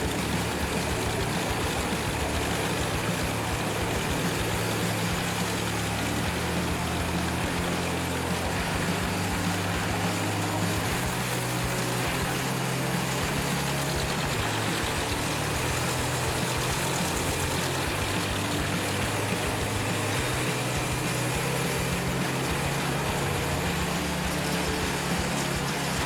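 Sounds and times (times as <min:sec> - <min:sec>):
hiss of wood being chipped: 0:00.0 - 0:26.0
wood chipper engine hum: 0:00.0 - 0:26.0.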